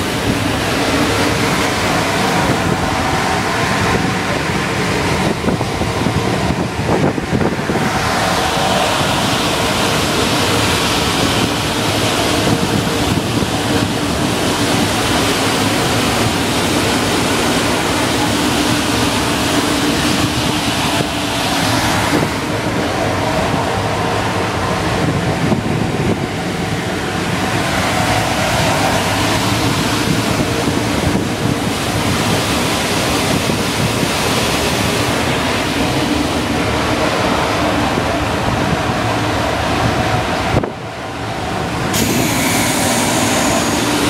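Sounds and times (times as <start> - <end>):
electric locomotive blowers humming: 0.0 - 44.0.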